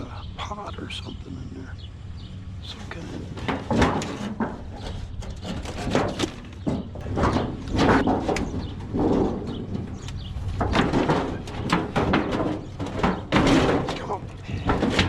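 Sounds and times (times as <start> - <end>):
scrap metal clanking and scraping: 2.7 - 15.0.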